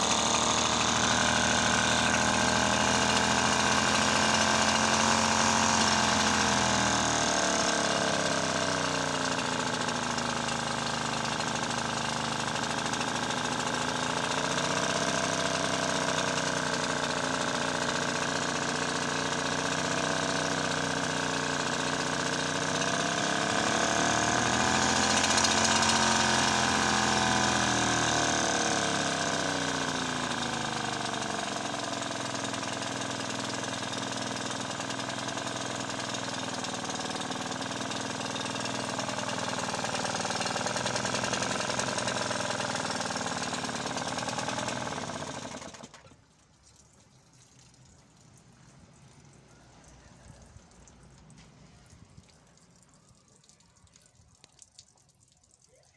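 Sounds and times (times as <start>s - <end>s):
outboard motor running: 0.0s - 55.8s.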